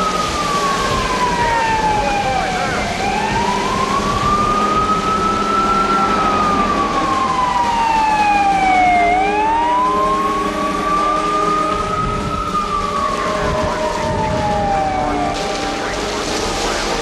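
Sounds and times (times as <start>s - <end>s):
fire truck siren wailing: 0.0s - 17.0s.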